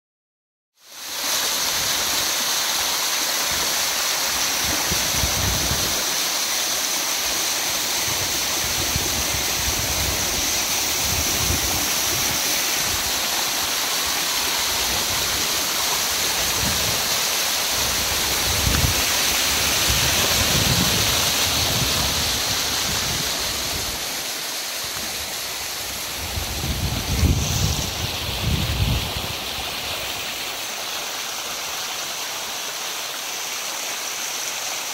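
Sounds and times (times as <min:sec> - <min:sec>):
rainwater rushing: 0:01.0 - 0:34.9.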